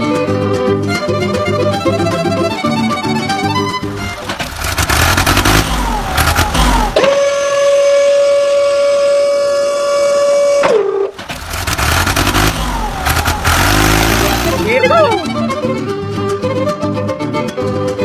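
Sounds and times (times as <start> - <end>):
toy vehicle engine sounds: 0.9 - 15.8.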